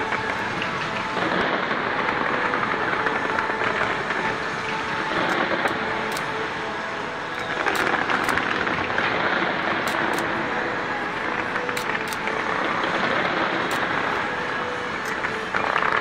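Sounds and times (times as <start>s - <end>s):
distant fireworks crackle and rumble: 0.0s - 16.0s
fireworks sharp cracks: 0.0s - 16.0s.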